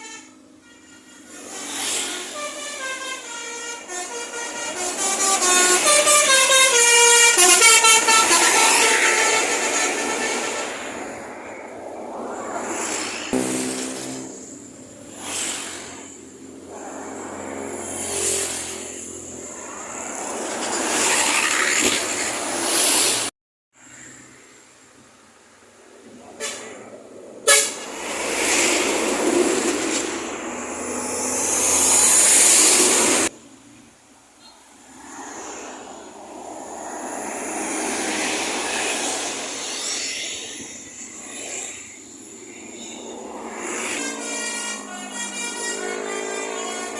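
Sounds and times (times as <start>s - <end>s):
road traffic passing: 0.0s - 46.9s.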